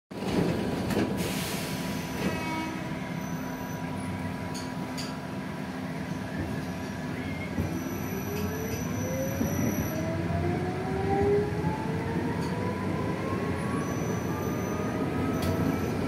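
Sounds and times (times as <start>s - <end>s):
train interior rumble and hum: 0.1s - 16.0s.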